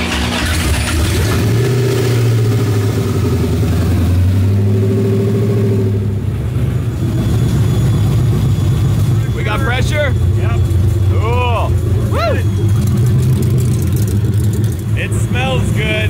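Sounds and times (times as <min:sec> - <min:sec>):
car engine running loudly: 0:00.0 - 0:16.0.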